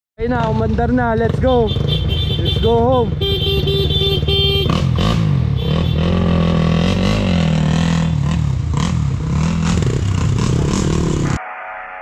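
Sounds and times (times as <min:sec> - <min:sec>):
dirt bike engines revving: 0:00.3 - 0:11.4.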